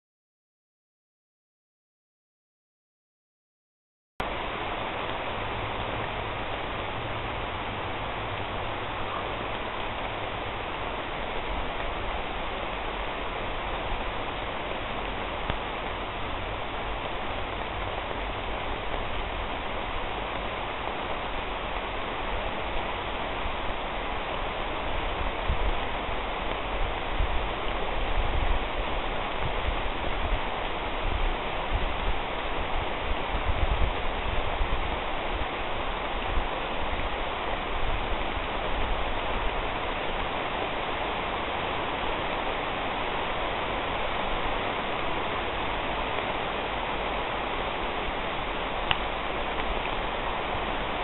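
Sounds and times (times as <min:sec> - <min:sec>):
rain pattering on leaves: 0:04.2 - 0:51.0.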